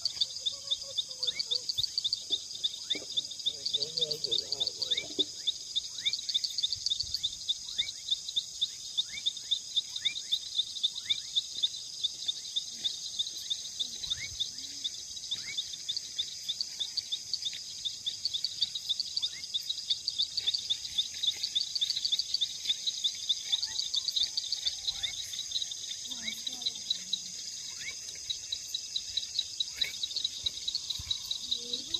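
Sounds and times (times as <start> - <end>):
insects chirping: 0.0 - 31.9.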